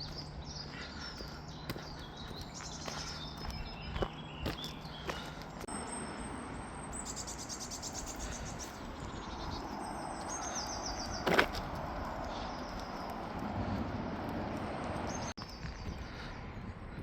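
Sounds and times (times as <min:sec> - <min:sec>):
outdoor background noise: 0:00.0 - 0:17.0
songbirds singing: 0:00.0 - 0:17.0.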